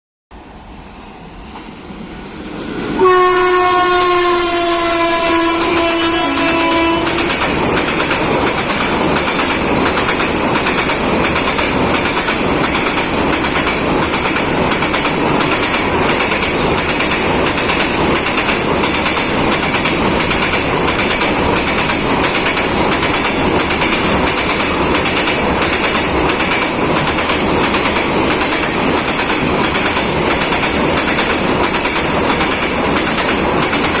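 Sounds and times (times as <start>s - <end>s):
train rumbling on track: 0.3s - 34.0s
wheels clacking over rail joints: 2.4s - 34.0s.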